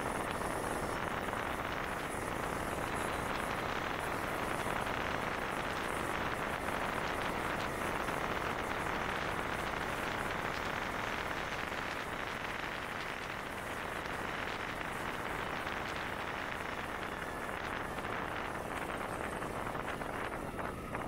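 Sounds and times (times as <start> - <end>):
rushing wind and road noise: 0.0 - 21.0.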